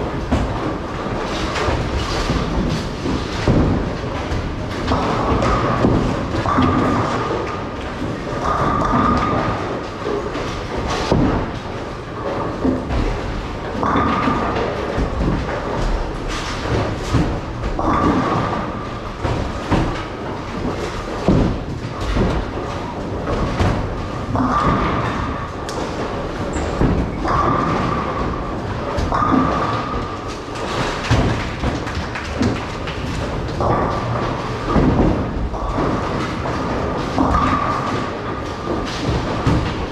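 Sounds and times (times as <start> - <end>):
bowling balls rumbling: 0.0 - 39.9
bowling pins clattering: 0.0 - 39.9.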